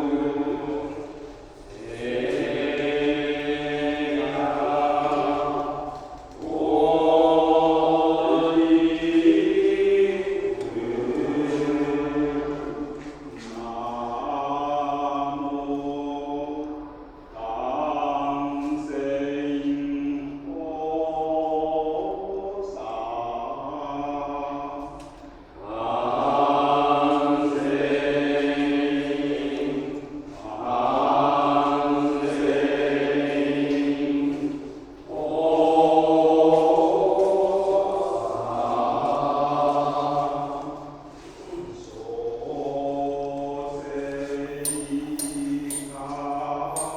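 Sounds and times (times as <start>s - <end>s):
monks chanting together: 0.0s - 46.9s.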